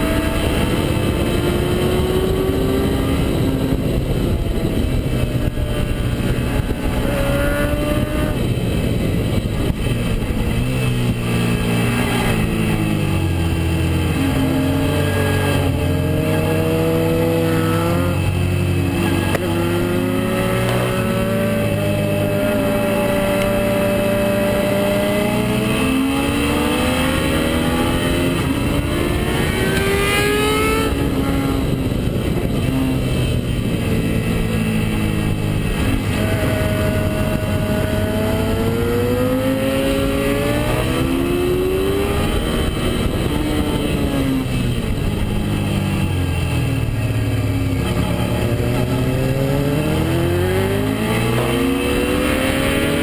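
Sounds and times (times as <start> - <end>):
motorcycle engine revving: 0.0 - 53.0
wind noise: 0.0 - 53.0.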